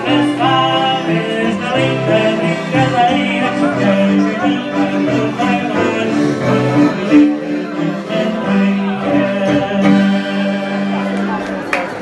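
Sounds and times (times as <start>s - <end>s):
live dance band playing: 0.0s - 12.0s.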